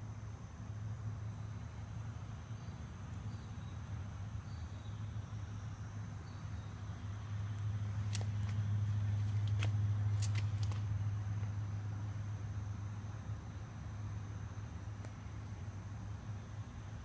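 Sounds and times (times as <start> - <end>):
faint insect chirps: 0.0 - 17.0
steady low hum: 0.0 - 17.0.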